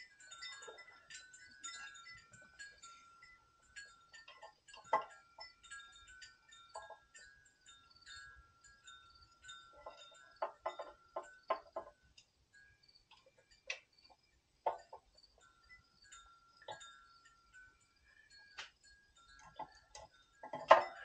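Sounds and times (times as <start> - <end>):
faint chime-like ringing: 0.0 - 21.0.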